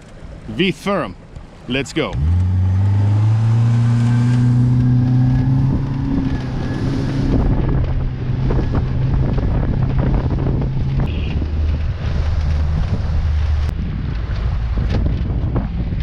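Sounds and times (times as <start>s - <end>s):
wind buffeting microphone: 2.6s - 16.0s.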